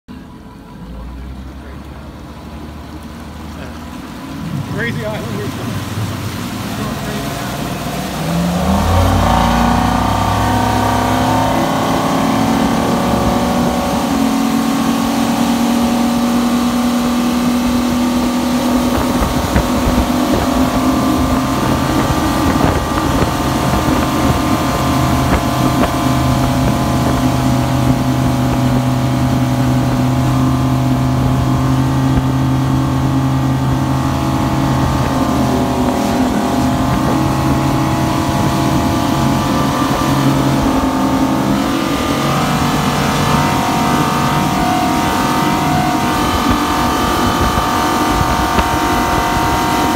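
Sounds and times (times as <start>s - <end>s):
outboard motor running hard: 0.1s - 49.9s
rushing water of wake: 0.1s - 49.9s.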